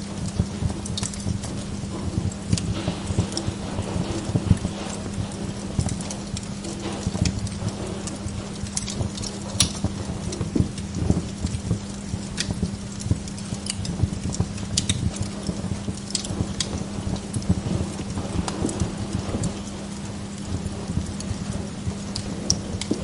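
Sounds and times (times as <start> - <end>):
log fire crackling: 0.0 - 23.0.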